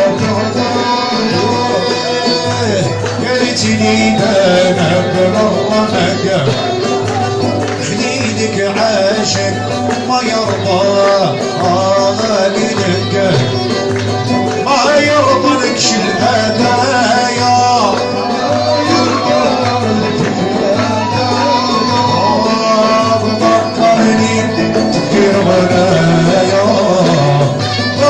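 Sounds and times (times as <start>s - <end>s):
oud and violin melody: 0.0s - 28.0s.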